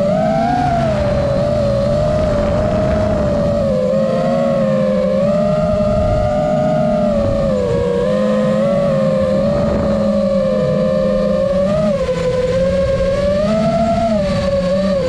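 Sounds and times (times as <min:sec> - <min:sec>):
electric propellers whining: 0:00.0 - 0:15.0
rumble of wind and prop wash: 0:00.0 - 0:15.0.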